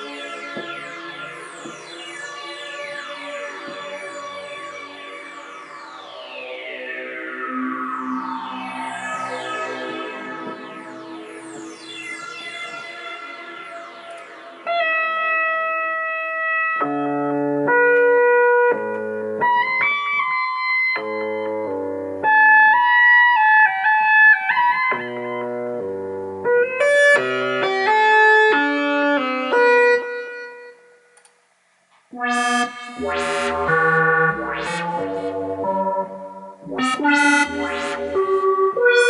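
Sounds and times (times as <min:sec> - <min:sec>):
synthesizer chords and bass line: 0:00.0 - 0:30.8, 0:32.1 - 0:39.0.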